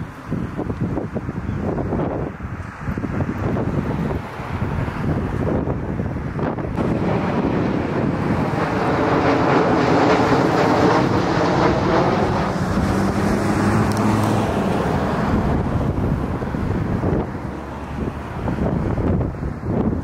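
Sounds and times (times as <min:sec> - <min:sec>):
jet plane passing: 0:00.0 - 0:20.0
wind noise on microphone: 0:00.0 - 0:20.0.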